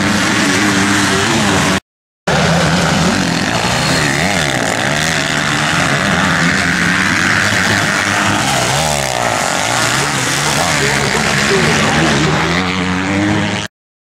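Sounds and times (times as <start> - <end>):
motocross bikes revving: 0.0 - 13.7.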